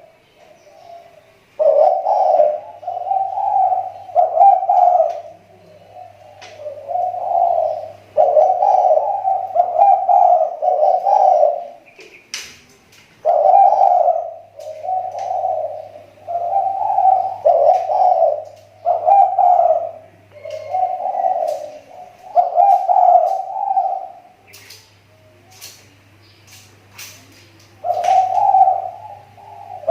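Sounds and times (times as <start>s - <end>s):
dove cooing: 0.0s - 12.2s, 13.2s - 29.9s.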